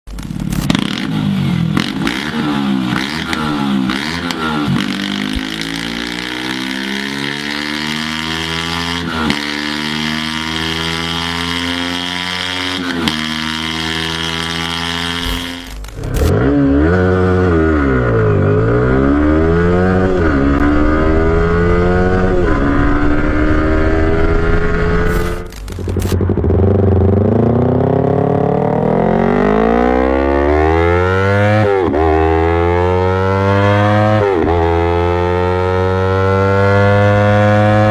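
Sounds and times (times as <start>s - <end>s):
motorcycle engine revving: 0.1s - 37.9s.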